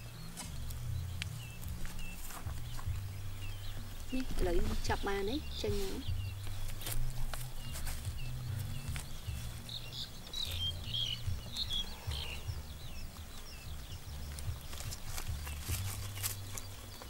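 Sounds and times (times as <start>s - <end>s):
low uneven rumble: 0.0s - 17.0s
small birds chirping: 0.0s - 17.0s.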